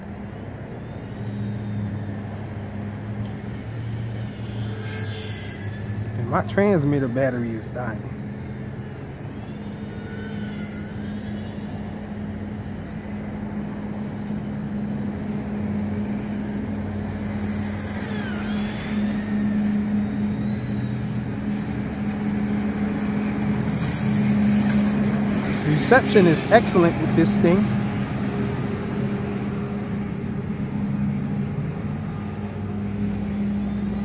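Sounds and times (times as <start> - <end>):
quadcopter motors whining: 0.0 - 34.0
steady low hum: 0.0 - 34.0.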